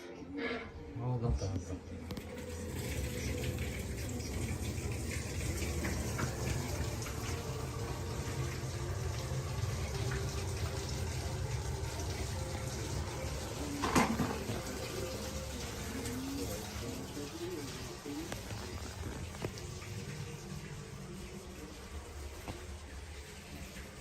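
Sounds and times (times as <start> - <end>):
water running: 1.4 - 24.0.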